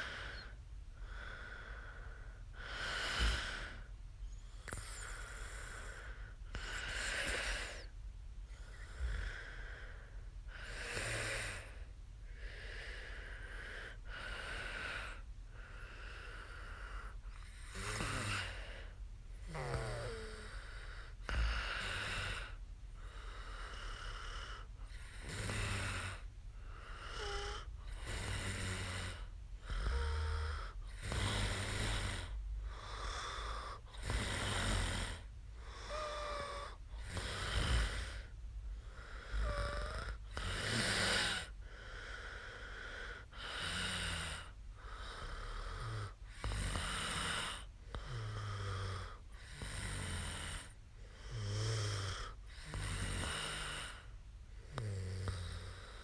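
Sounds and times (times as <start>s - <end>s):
woman snoring: 0.0s - 0.5s, 2.6s - 7.9s, 8.5s - 10.0s, 10.6s - 11.9s, 15.9s - 22.6s, 23.2s - 56.0s.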